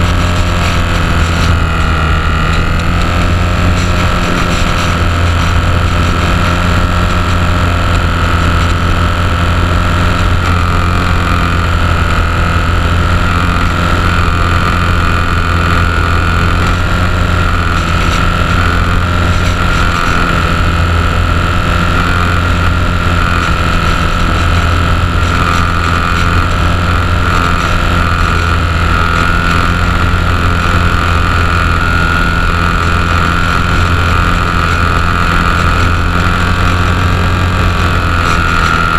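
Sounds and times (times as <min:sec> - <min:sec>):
electric motor and propeller whine: 0:00.0 - 0:38.9.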